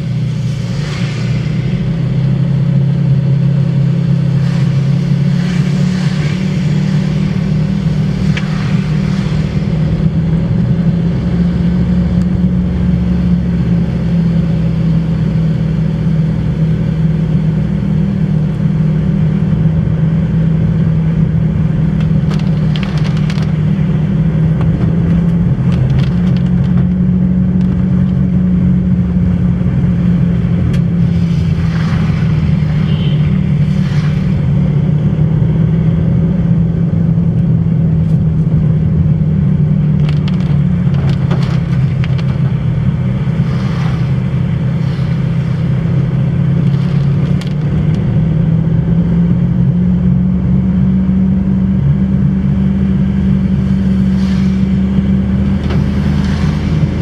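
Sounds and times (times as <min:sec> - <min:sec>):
car engine and tyres drone: 0:00.0 - 0:57.0.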